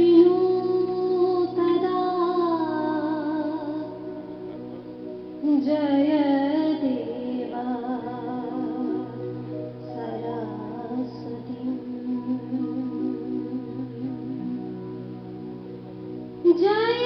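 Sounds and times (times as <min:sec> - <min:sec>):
woman singing devotional song: 0:00.0 - 0:04.5, 0:05.4 - 0:14.7, 0:16.4 - 0:17.0
steady held drone: 0:00.0 - 0:17.0.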